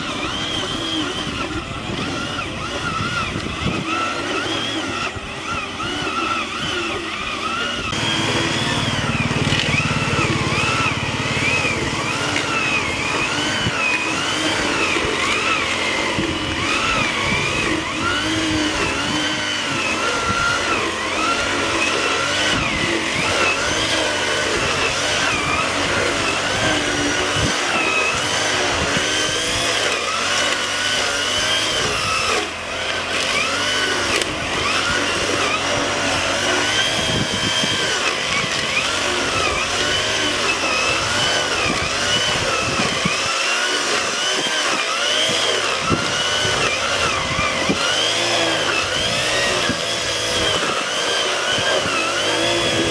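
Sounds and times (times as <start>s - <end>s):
brush cutter engine under load: 0.0s - 52.9s.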